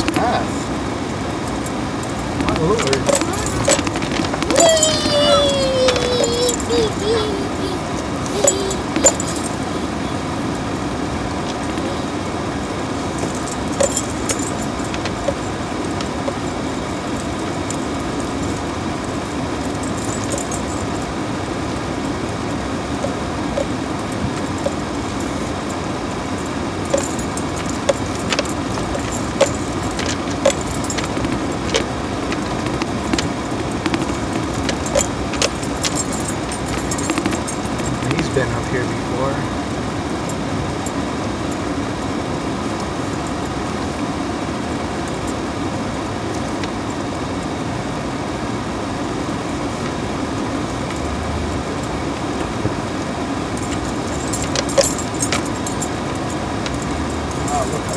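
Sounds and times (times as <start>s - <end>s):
engine and tyres rumbling: 0.0s - 57.9s.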